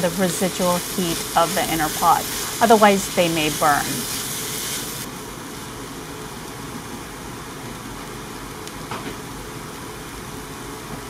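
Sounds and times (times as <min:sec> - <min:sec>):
faint sizzling hiss: 0:00.0 - 0:11.0.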